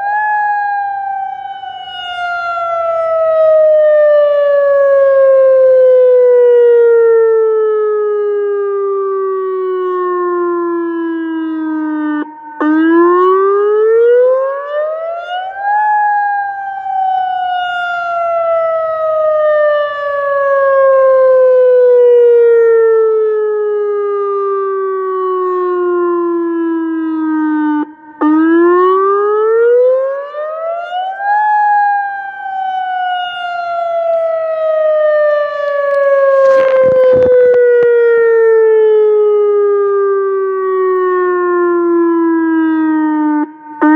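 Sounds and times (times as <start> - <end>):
warning siren wailing: 0.0 - 43.9.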